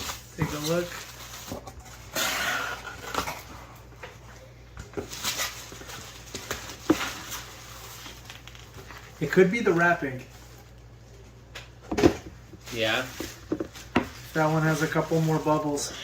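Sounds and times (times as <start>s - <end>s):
plastic wrapping rustling: 0.0s - 11.3s, 12.2s - 16.0s.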